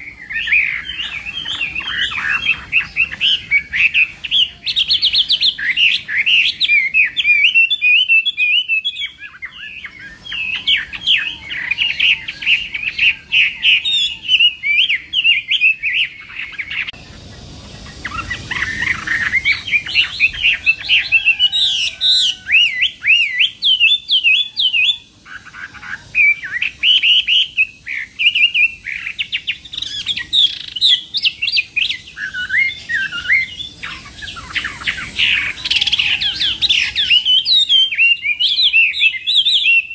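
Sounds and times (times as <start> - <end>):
bird singing high whistled notes: 0.0 - 39.9.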